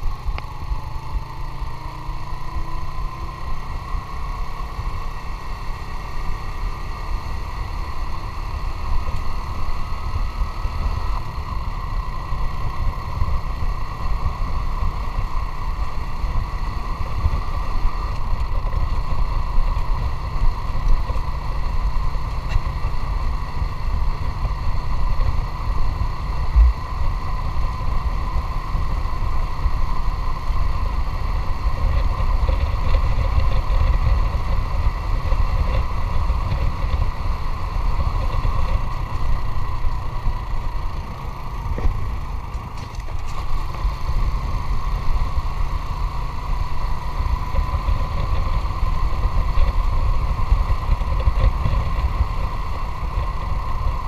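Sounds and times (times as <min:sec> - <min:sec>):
motorcycle engine whine: 0:00.0 - 0:54.0.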